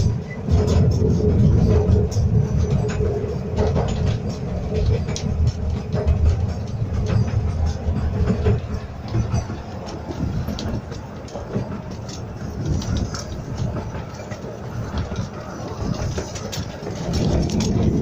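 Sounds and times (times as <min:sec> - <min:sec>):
train carriages rumbling: 0:00.0 - 0:18.0
wheels clacking on rails: 0:00.0 - 0:18.0.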